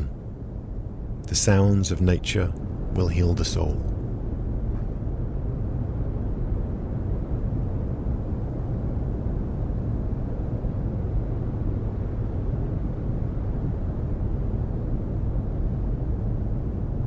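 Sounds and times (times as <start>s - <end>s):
distant ocean surf rumble: 0.0s - 17.0s.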